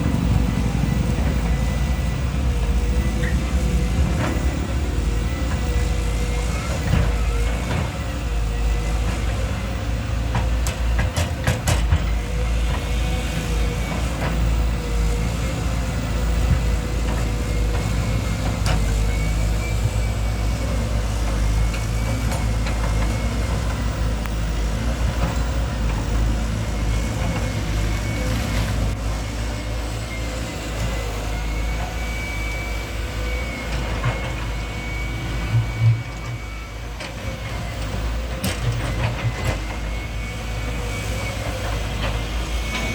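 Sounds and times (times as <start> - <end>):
heavy machinery engine rumble: 0.0 - 42.9.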